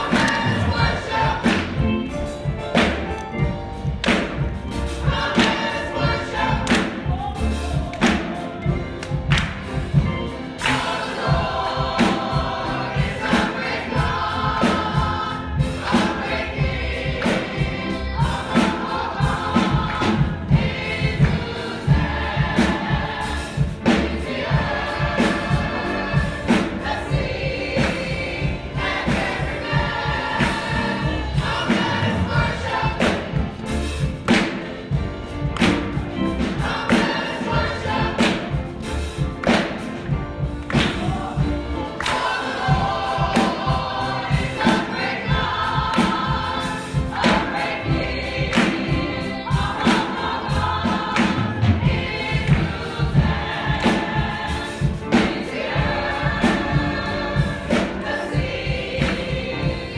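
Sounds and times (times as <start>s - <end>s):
congregation and choir singing: 0.0s - 59.9s
drums or hand claps: 0.0s - 59.9s.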